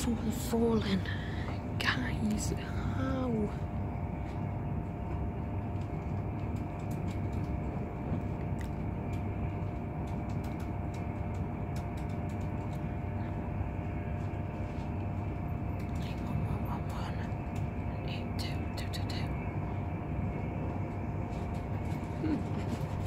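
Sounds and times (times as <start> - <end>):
faint steady whine: 0.0 - 23.0.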